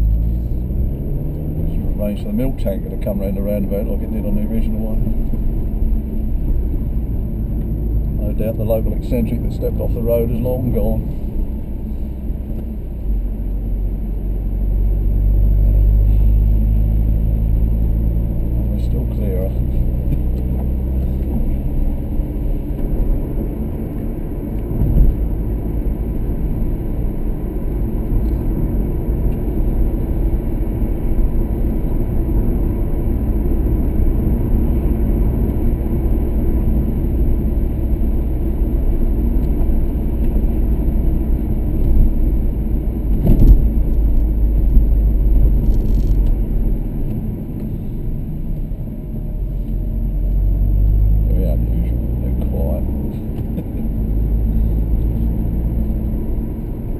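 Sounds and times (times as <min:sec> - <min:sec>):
car rumble on wet road: 0:00.0 - 0:56.9.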